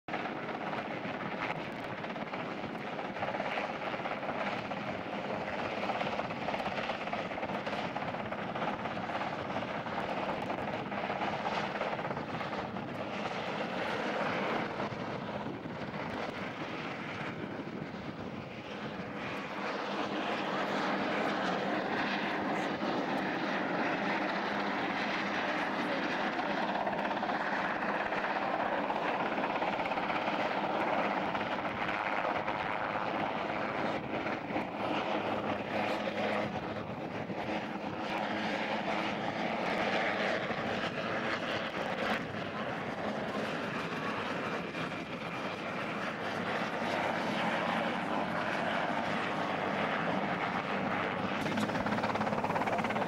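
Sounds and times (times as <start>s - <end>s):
helicopter rotor and turbine engines: 0.0s - 53.0s.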